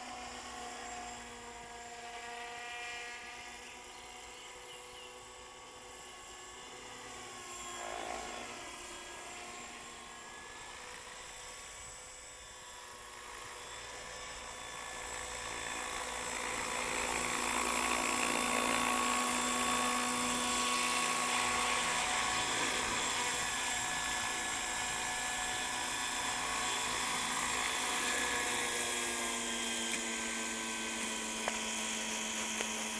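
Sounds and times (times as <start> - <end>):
model helicopter rotor whine: 0.0 - 32.9.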